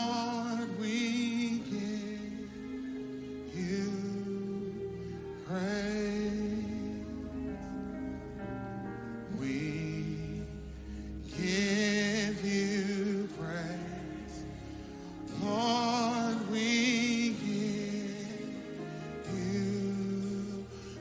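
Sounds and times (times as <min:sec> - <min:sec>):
person singing gospel: 0:00.0 - 0:21.0.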